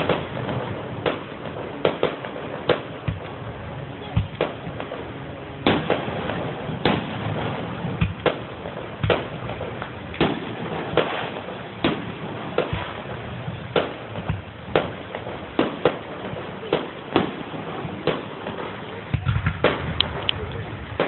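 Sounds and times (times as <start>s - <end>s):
fireworks banging: 0.0s - 21.0s
steady background noise: 0.0s - 21.0s.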